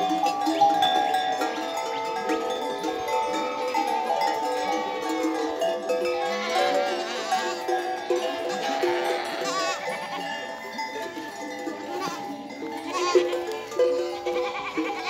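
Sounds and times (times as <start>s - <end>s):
goat bells clanking: 0.0s - 15.0s
goats bleating: 0.0s - 15.0s.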